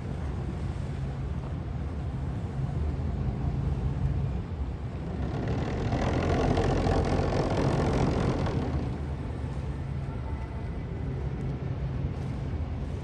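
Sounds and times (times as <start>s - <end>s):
boat engines rumbling: 0.0s - 13.0s
rush of noise: 2.2s - 13.0s.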